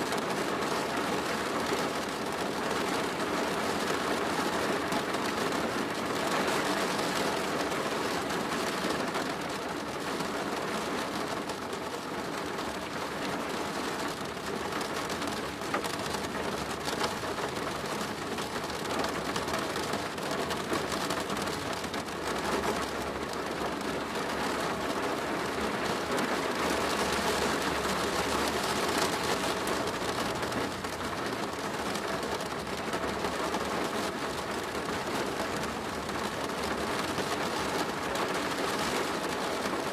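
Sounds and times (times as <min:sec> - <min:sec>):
rain on a plastic roof: 0:00.0 - 0:39.9.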